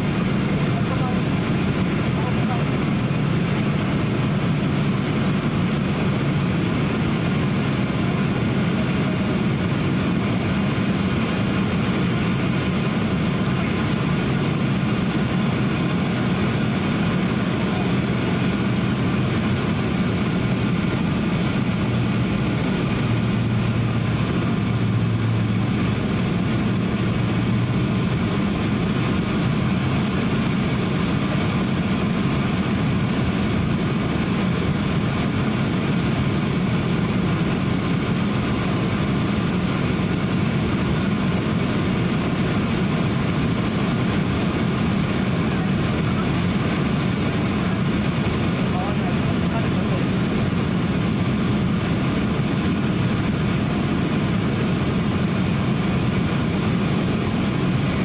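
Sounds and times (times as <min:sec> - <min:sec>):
jet engine drone: 0:00.0 - 0:58.0
low hum: 0:00.0 - 0:58.0
rushing airflow: 0:00.0 - 0:58.0.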